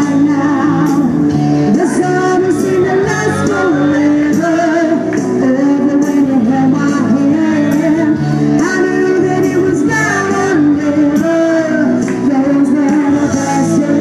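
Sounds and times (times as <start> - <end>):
backing track through loudspeakers: 0.0 - 14.0
woman singing into a microphone: 0.0 - 14.0.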